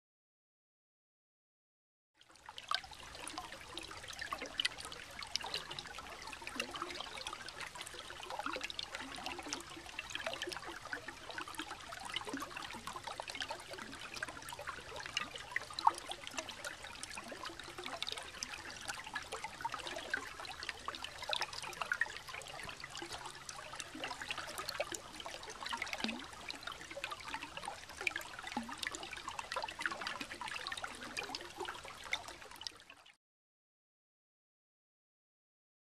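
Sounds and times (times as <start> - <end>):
water trickling under ice: 2.2 - 33.2.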